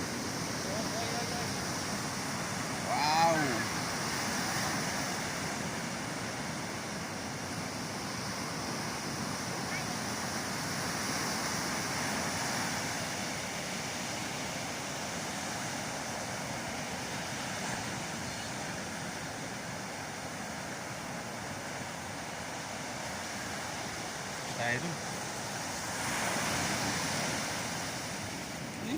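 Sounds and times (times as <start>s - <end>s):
ocean surf breaking: 0.0s - 28.9s.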